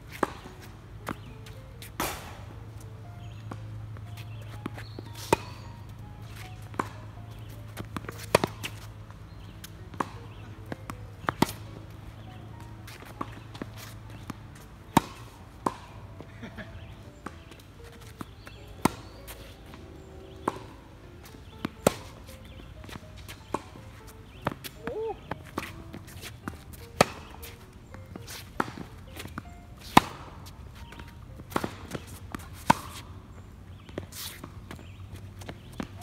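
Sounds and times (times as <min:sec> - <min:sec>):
tennis balls bouncing on court: 0:00.0 - 0:36.0
tennis balls struck by racquets: 0:00.0 - 0:36.0.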